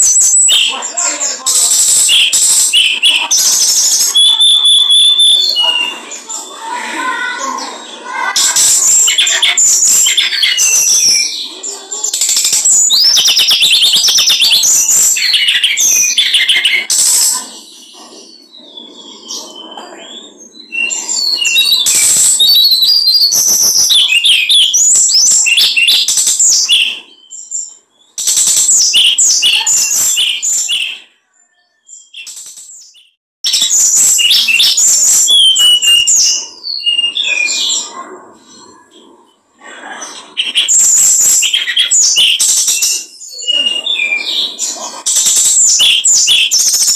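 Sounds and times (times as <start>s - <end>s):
songbird chattering song: 0.0s - 46.9s.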